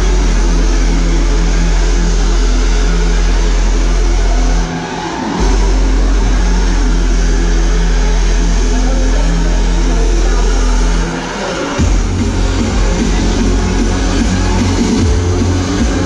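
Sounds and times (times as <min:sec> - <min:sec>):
loud dubstep music: 0:00.0 - 0:16.0.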